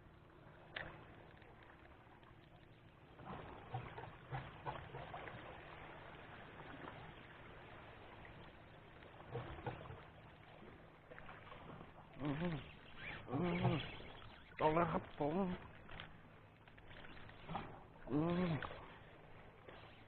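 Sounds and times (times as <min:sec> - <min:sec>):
faint sea water: 0:00.0 - 0:20.0.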